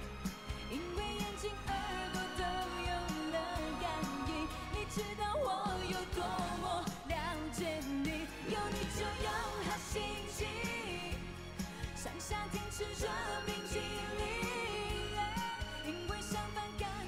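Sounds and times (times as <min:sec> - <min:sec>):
person singing: 0:00.7 - 0:17.0.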